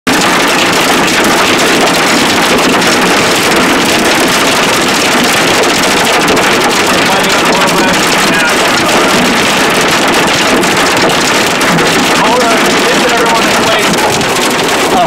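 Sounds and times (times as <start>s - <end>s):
hail clattering on car roof: 0.1s - 15.0s.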